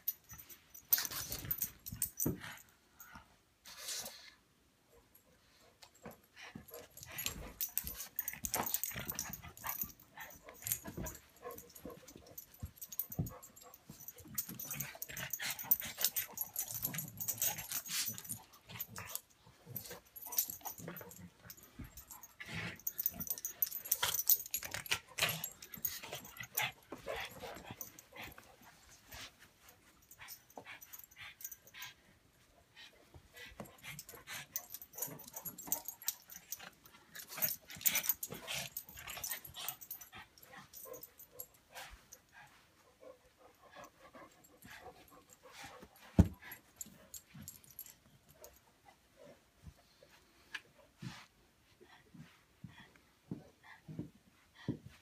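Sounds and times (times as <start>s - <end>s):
dogs playing: 0.0s - 4.4s, 5.1s - 55.0s.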